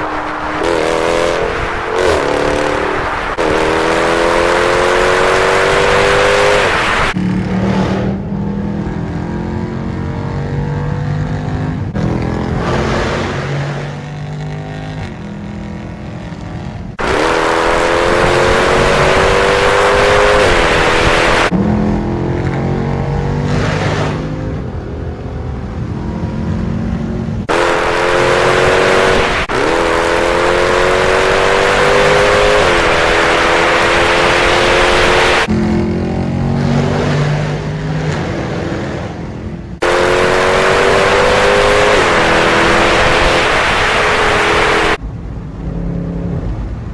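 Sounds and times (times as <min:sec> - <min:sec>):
car engine accelerating hard: 0:00.0 - 0:26.0, 0:26.8 - 0:46.9
road noise: 0:00.0 - 0:46.9.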